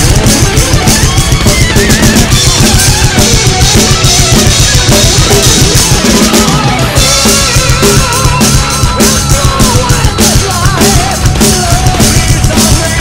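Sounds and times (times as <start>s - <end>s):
wavering lead melody: 0.0s - 11.4s
drum kit played fast: 0.0s - 13.0s
heavy metal track: 0.0s - 13.0s.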